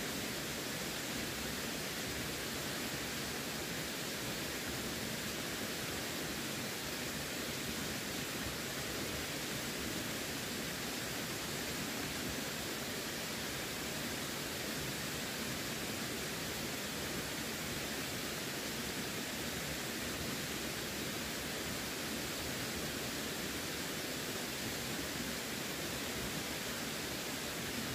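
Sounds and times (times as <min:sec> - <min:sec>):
running water rushing: 0:00.0 - 0:27.9.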